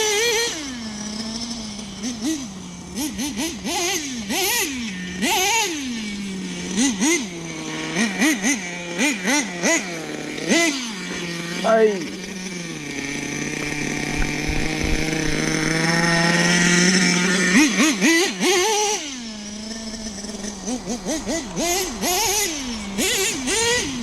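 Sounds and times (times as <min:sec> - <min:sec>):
nitro engine revving: 0:00.0 - 0:24.0.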